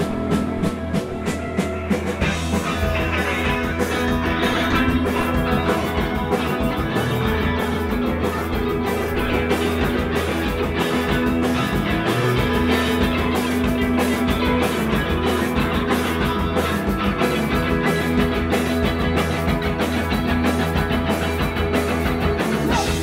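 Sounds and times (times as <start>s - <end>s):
distorted electric guitars: 0.0s - 23.0s
drum kit: 0.0s - 23.0s.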